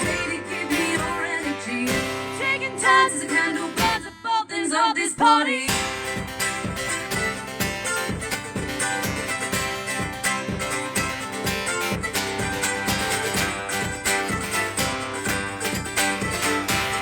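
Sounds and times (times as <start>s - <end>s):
acoustic guitar strumming: 0.0s - 4.6s, 5.6s - 17.0s.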